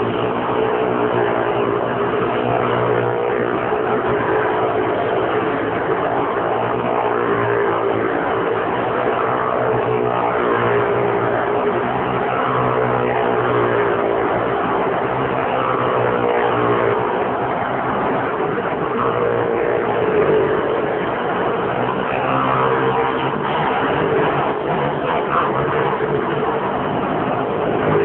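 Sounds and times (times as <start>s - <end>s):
motorcycle and car engines droning: 0.0s - 28.0s.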